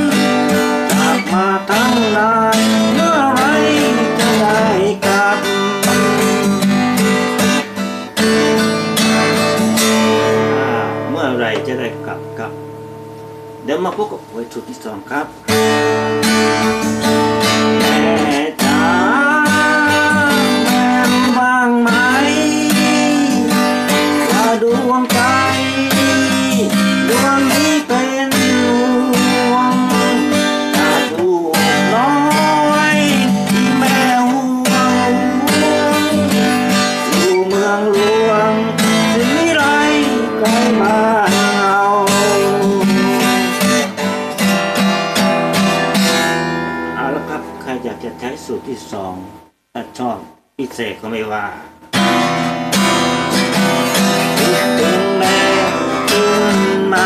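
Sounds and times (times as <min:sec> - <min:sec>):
sliding guitar melody: 0:00.0 - 0:14.4, 0:15.1 - 0:49.1, 0:51.9 - 0:57.0
acoustic guitar strumming: 0:00.0 - 0:57.0.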